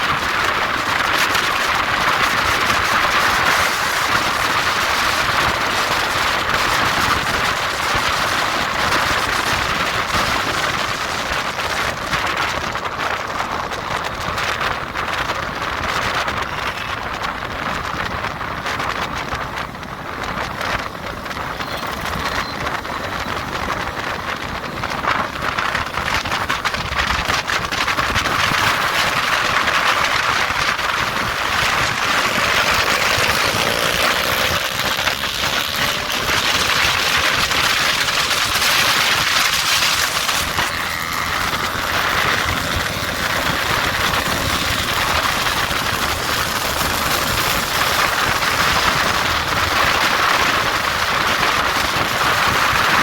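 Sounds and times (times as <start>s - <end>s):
motorcycle engine running: 0.0s - 53.0s
wind rushing over microphone: 0.0s - 53.0s.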